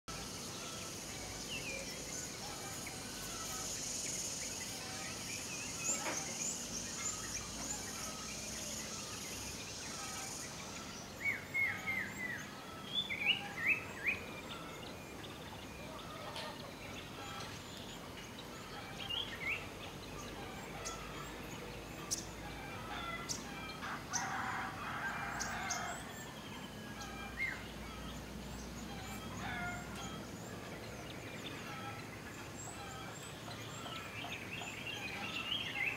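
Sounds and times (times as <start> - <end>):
high steady hiss: 0.1 - 35.9
wild birds calling: 0.1 - 35.9.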